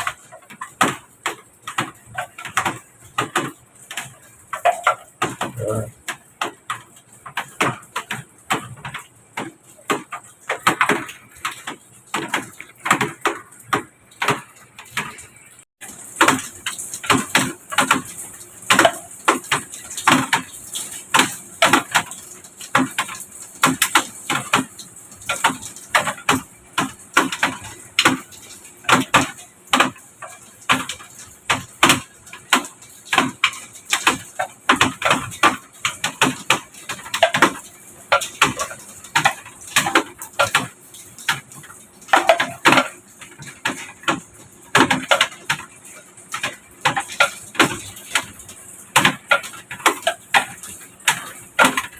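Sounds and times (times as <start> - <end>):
knocks and clatters: 0.0 - 51.9.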